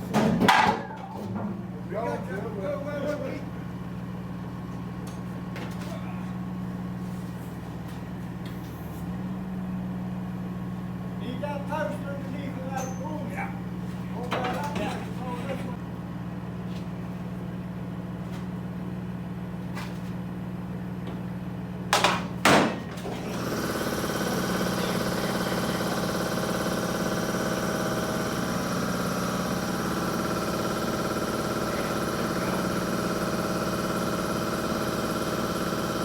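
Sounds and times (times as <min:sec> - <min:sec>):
engine running: 0:01.2 - 0:36.0.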